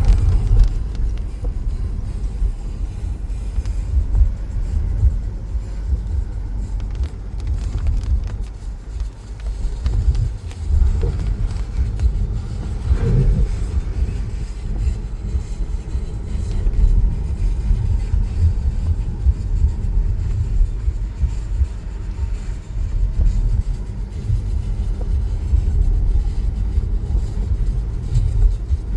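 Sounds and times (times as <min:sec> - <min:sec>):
storm wind buffeting microphone: 0:00.0 - 0:28.9.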